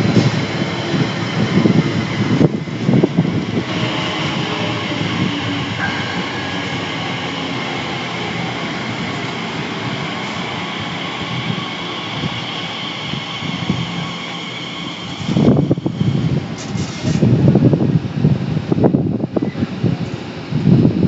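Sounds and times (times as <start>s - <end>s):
electric train humming and whining: 0.0s - 21.0s.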